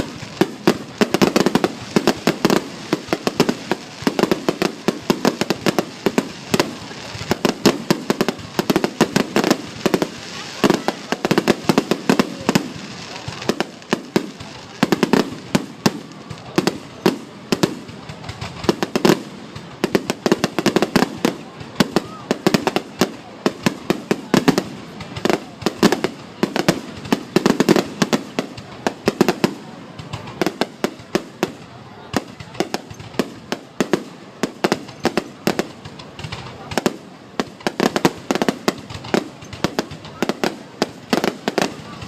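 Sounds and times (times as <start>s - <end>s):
fireworks cracks and bangs: 0.0s - 42.0s.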